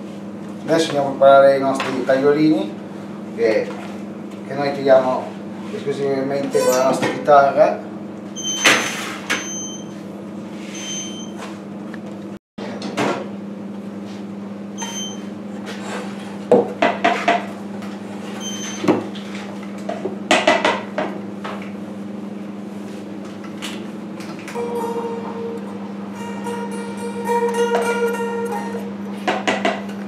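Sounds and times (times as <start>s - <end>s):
low kitchen hum: 0.0s - 30.0s.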